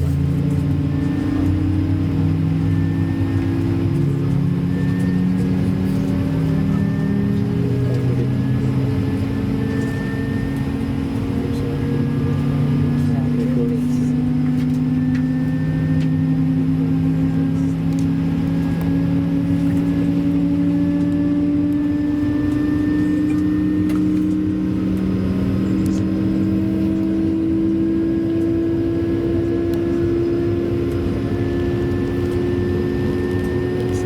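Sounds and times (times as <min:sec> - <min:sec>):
jet engine droning hum: 0:00.0 - 0:34.0.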